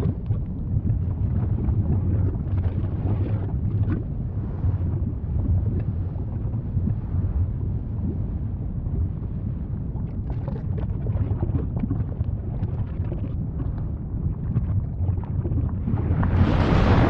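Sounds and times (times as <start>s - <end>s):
deep volcano rumbling: 0.0s - 17.0s.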